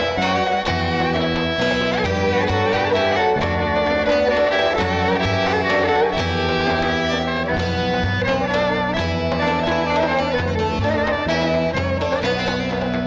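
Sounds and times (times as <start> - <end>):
bowed string music: 0.0 - 13.0
steady bass line: 0.0 - 13.0.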